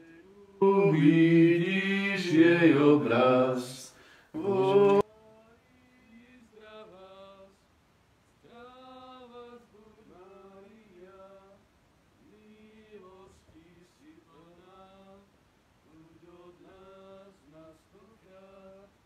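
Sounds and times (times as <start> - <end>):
men singing a slow hymn: 0.0 - 7.6, 8.4 - 19.0.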